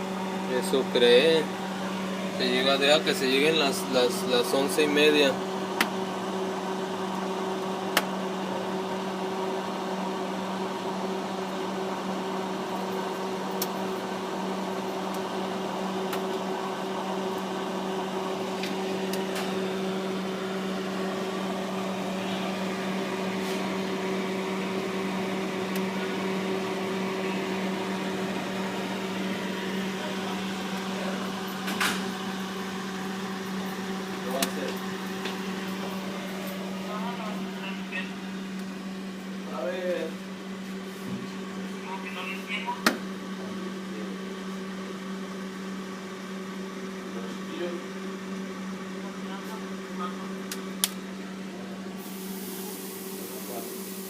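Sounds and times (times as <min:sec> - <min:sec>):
refrigerator humming: 0:00.0 - 0:54.0.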